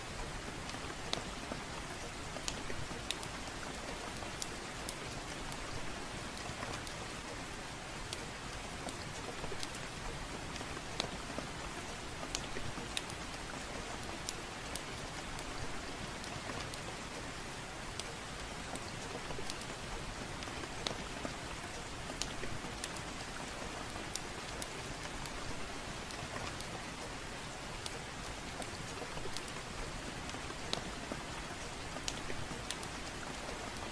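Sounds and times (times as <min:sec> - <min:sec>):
soft steady rain: 0:00.0 - 0:33.9
wood fire crackling: 0:00.4 - 0:33.9.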